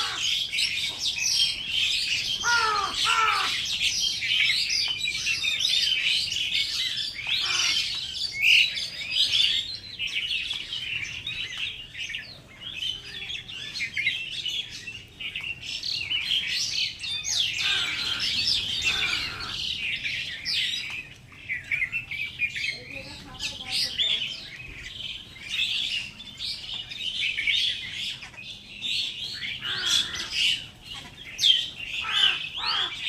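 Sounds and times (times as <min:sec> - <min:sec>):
many small birds chirping: 0:00.0 - 0:33.0.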